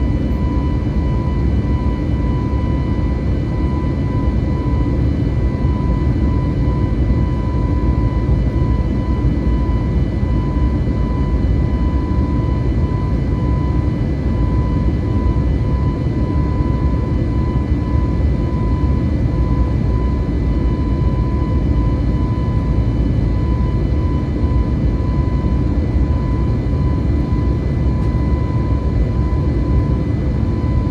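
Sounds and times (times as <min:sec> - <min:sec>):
thin steady whine: 0:00.0 - 0:30.9.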